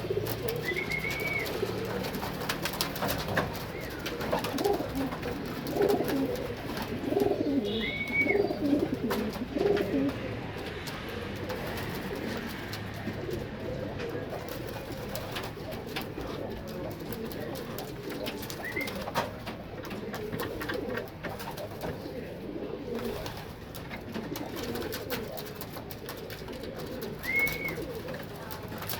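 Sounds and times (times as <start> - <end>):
pigeons cooing: 0.0 - 28.9.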